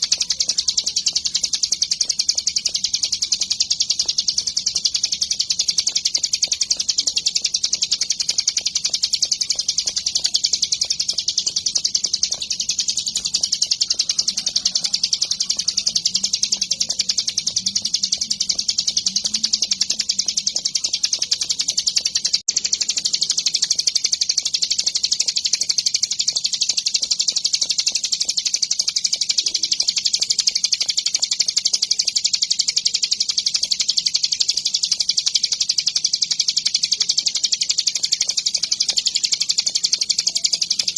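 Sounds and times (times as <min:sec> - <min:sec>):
bird singing high chattering notes: 0:00.0 - 0:40.9.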